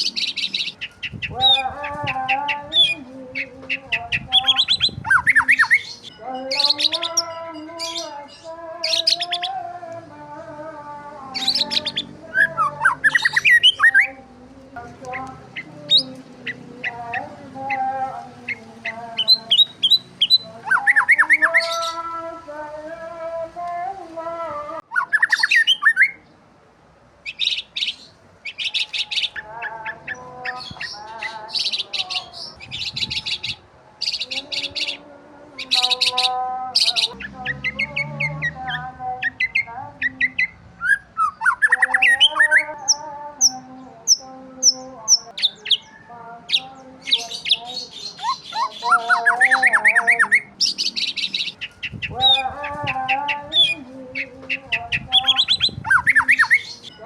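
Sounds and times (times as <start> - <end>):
birds chirping rapidly: 0.0 - 9.6, 11.2 - 14.2, 14.8 - 22.2, 24.8 - 26.4, 27.2 - 57.0
birds warbling: 0.0 - 9.7, 11.1 - 22.5, 24.8 - 26.3, 27.2 - 57.0.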